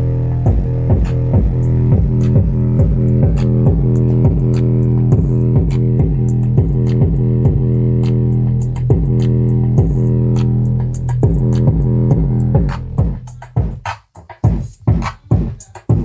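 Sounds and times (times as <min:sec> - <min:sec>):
bass-heavy music from speaker: 0:00.0 - 0:16.0
kick drum beat: 0:00.5 - 0:07.8, 0:08.8 - 0:09.2, 0:09.8 - 0:10.1, 0:11.2 - 0:16.0.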